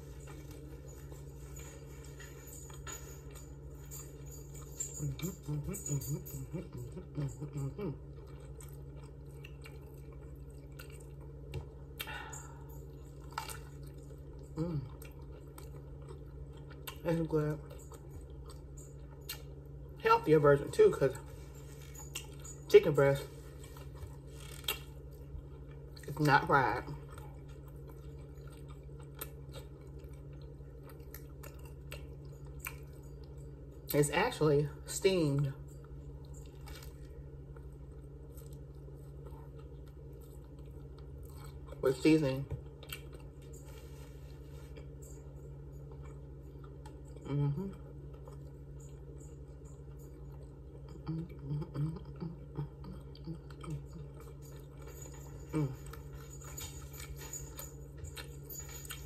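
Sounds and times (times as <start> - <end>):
person chewing food: 0.0 - 17.0, 17.6 - 20.0, 21.2 - 33.9, 35.7 - 41.9, 42.5 - 59.0
steady low hum: 0.0 - 59.0.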